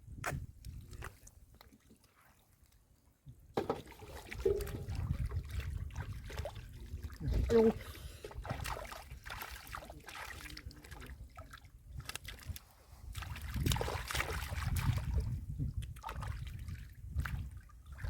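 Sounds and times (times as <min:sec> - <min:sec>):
muddy water sloshing and splashing: 0:00.7 - 0:18.0.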